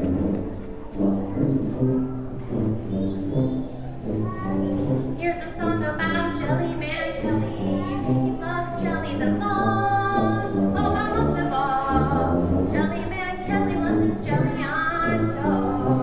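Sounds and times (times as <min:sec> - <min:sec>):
children's choir singing: 0:00.0 - 0:16.0
tuba bass notes: 0:00.0 - 0:16.0.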